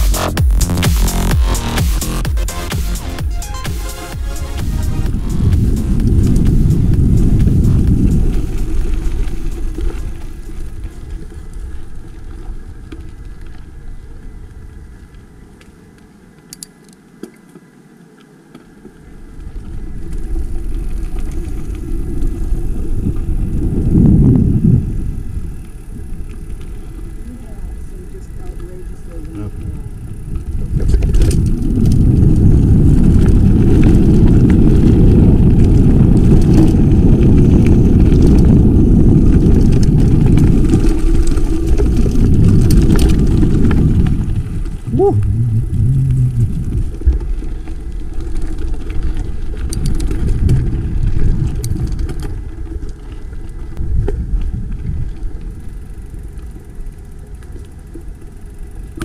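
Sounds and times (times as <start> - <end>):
wind rumbling on microphone: 4.0 - 16.5, 18.8 - 59.0.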